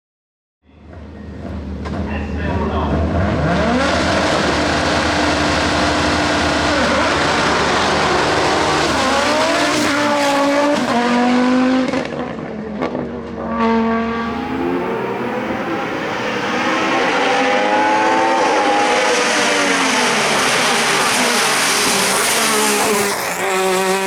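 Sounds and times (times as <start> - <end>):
race car engine at full throttle: 0.8 - 24.0.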